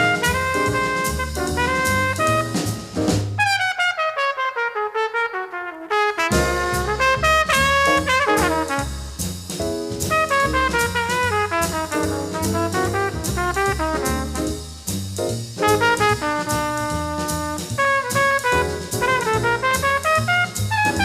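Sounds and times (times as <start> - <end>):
drums: 0.0 - 3.4, 6.3 - 21.0
walking bass: 0.0 - 3.4, 6.3 - 21.0
horn solo: 0.0 - 9.2, 10.1 - 14.6, 15.6 - 21.0.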